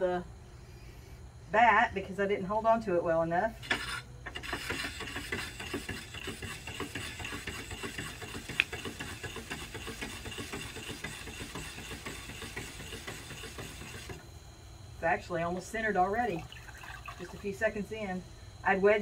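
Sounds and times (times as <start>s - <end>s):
pottery wheel motor hum: 0.0s - 19.0s.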